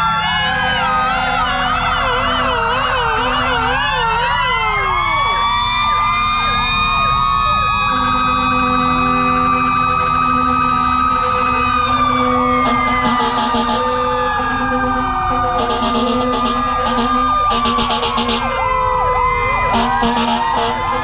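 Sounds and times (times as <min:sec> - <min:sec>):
sirens yelping and wailing: 0:00.0 - 0:21.0.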